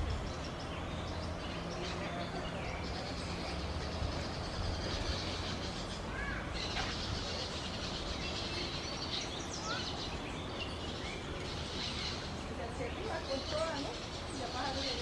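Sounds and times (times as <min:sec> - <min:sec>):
steady forest hiss: 0:00.0 - 0:15.0.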